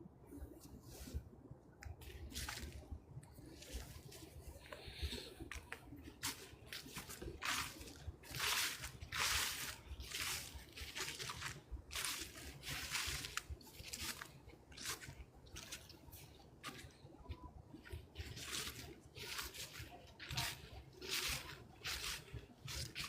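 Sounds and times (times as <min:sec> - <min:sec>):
footsteps crunching through leaves: 0:02.0 - 0:02.9, 0:03.5 - 0:17.0, 0:17.7 - 0:23.0.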